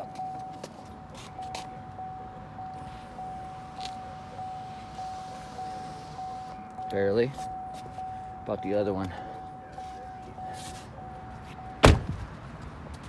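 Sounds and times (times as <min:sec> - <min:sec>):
car warning chime pulsing: 0:00.0 - 0:12.3.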